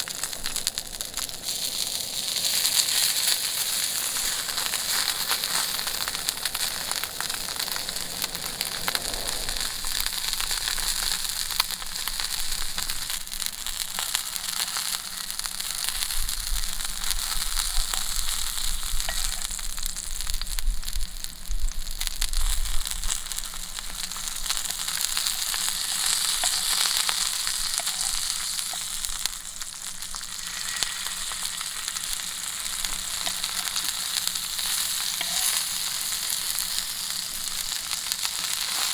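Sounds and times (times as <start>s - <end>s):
meat sizzling on a grill: 0.0s - 38.9s
fat crackling: 2.1s - 18.3s, 23.4s - 38.6s.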